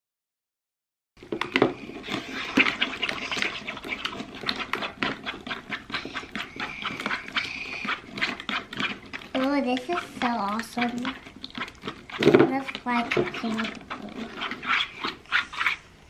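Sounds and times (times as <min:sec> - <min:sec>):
slime squelching while stirred: 0:01.2 - 0:16.0.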